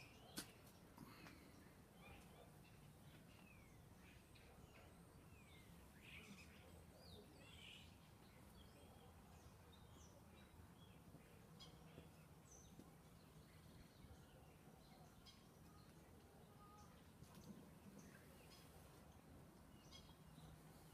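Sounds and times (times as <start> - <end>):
faint bird chirps: 0.0 - 20.9.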